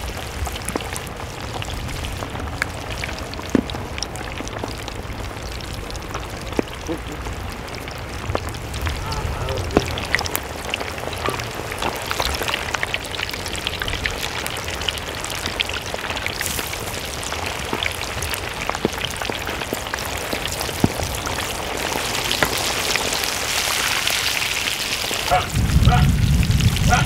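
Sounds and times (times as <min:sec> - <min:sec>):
deep-frying sizzle with pops: 0:00.0 - 0:27.0.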